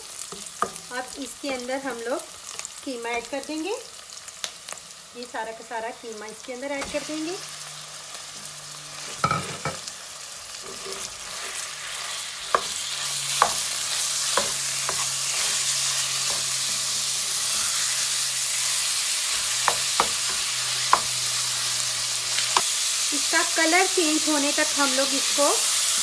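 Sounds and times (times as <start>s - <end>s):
meat sizzling in a pan: 0.0s - 26.0s.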